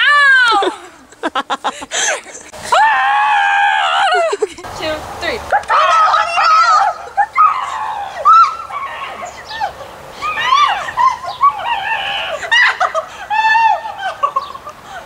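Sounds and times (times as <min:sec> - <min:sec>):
girls squealing and shrieking: 0:00.0 - 0:01.2, 0:01.9 - 0:04.7, 0:05.5 - 0:15.0.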